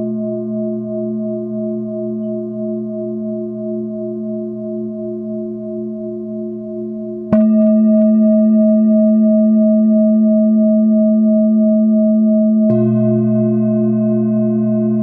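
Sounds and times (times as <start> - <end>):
singing bowl struck: 0.0 - 15.0
singing bowls ringing: 0.0 - 15.0.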